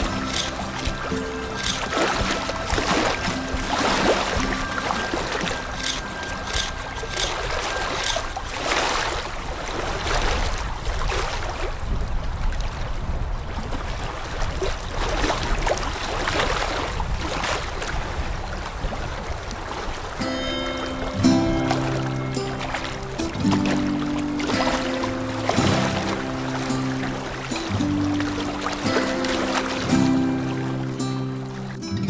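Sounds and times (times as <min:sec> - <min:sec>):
water splashing and running: 0:00.0 - 0:31.9.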